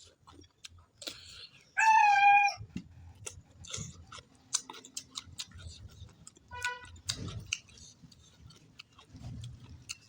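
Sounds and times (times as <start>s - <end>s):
close chewing mouth sounds: 0.0s - 1.8s, 2.8s - 10.0s.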